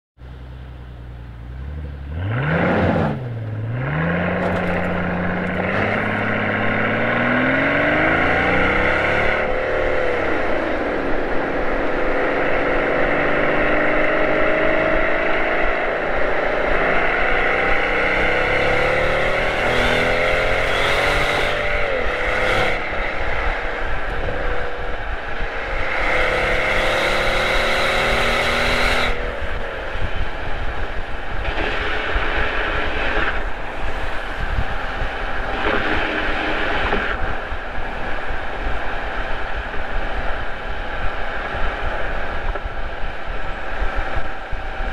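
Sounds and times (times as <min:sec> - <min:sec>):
car engine accelerating: 0:00.2 - 0:44.9
road noise: 0:00.2 - 0:44.9.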